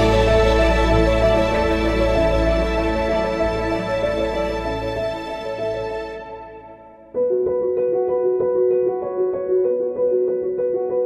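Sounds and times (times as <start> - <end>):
piano piece: 0.0 - 11.0.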